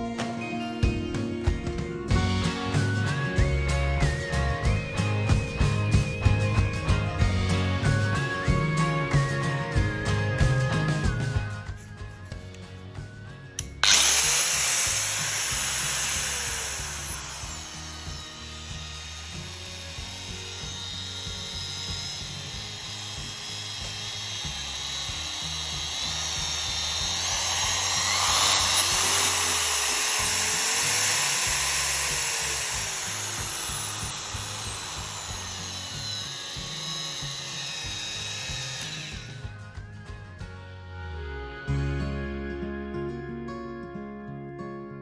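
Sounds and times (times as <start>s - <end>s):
angle grinder motor whine: 0.0s - 44.0s
background music: 0.0s - 45.0s.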